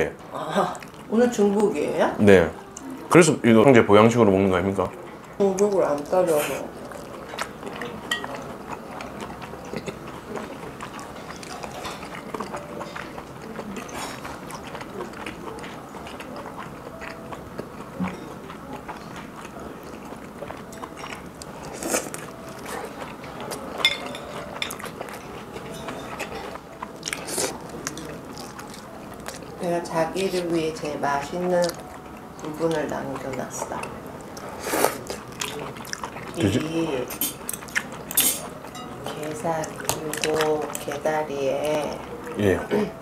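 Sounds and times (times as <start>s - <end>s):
low background noise: 0.0s - 43.0s
person chewing food: 0.6s - 1.7s, 4.7s - 43.0s.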